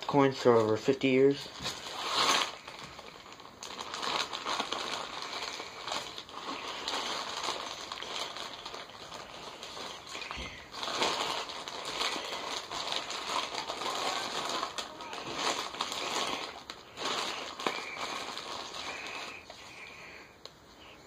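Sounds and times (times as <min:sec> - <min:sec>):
rustling and crinkling: 0:00.0 - 0:21.0.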